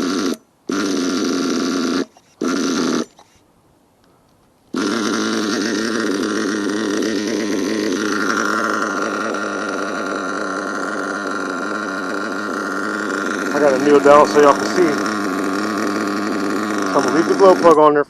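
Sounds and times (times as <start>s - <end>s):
nitro engine idling burbling: 0.0s - 3.4s, 4.7s - 18.0s
steady higher whine: 0.0s - 3.4s, 4.7s - 18.0s.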